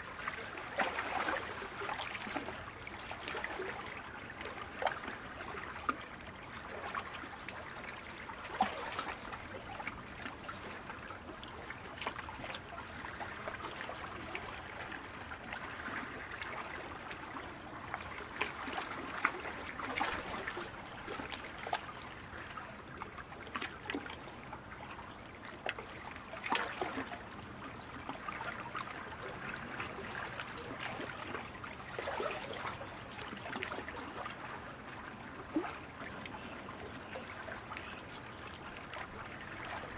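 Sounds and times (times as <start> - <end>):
lake water lapping: 0.0 - 39.9.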